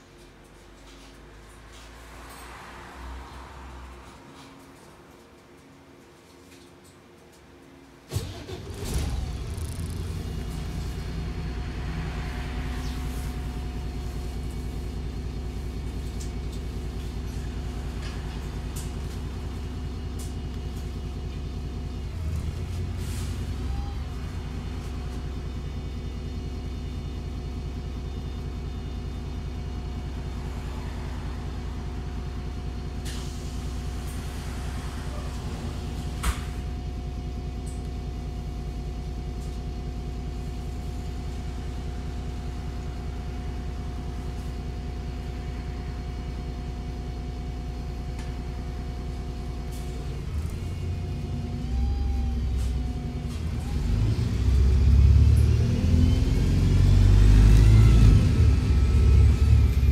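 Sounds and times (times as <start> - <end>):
diesel bus engine idling: 8.1 - 59.9.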